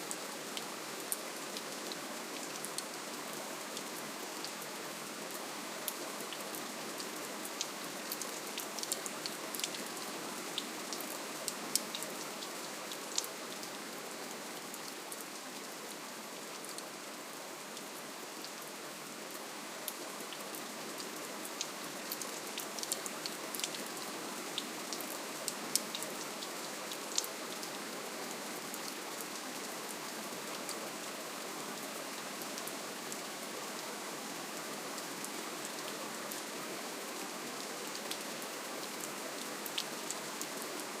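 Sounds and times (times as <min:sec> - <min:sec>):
gentle rainfall hiss: 0:00.0 - 0:41.0.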